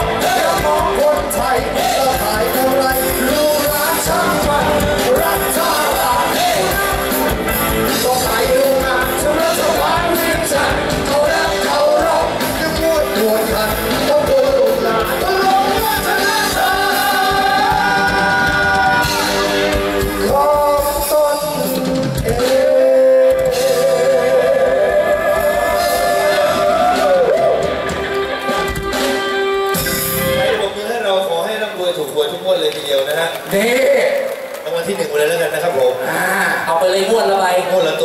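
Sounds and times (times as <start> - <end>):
band accompaniment: 0.0 - 33.5.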